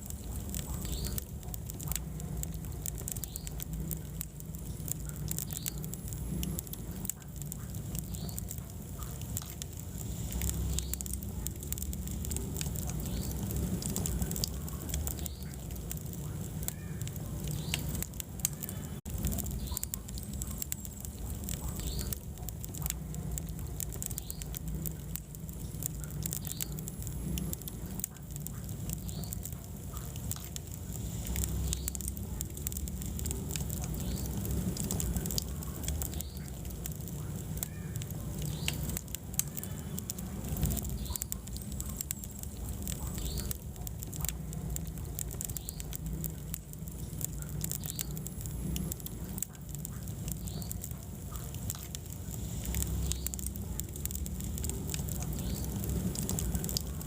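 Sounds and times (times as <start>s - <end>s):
flames rumbling: 0.0s - 57.0s
wood fire crackling: 0.0s - 57.0s.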